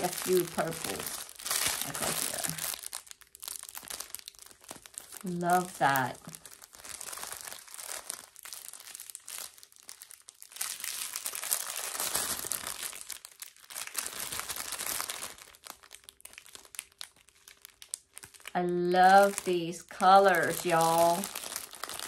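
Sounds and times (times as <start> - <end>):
plastic packet crinkling: 0.0 - 22.0.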